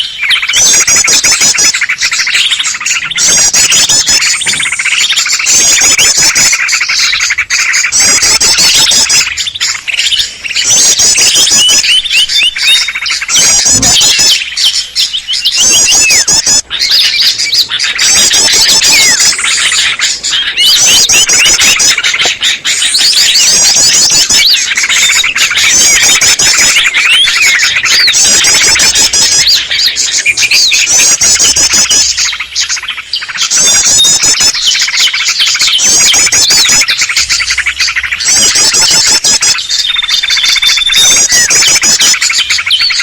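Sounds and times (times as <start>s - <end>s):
bulbul chatter: 0.0s - 43.0s
high twittering phrase: 0.0s - 43.0s
small birds chirping and twittering: 0.0s - 43.0s.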